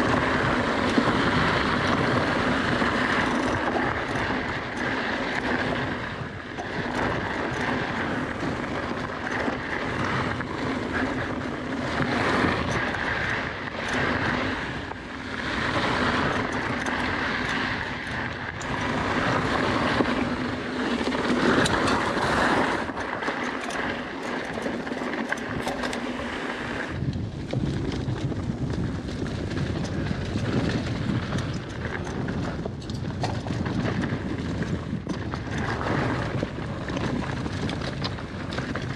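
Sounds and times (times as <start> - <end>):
bike rattling: 0.0 - 38.9
wind rushing over microphone: 0.0 - 38.9.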